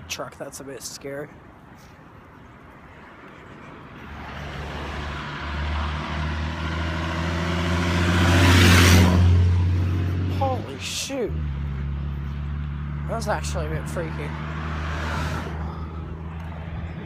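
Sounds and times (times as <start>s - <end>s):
road noise: 0.0s - 17.0s
truck engine hum: 1.6s - 17.0s.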